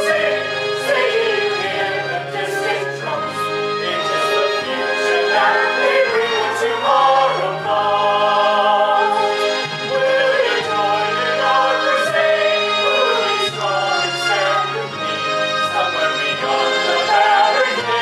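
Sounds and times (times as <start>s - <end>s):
choir singing: 0.0s - 18.0s
instrumental accompaniment: 0.0s - 18.0s.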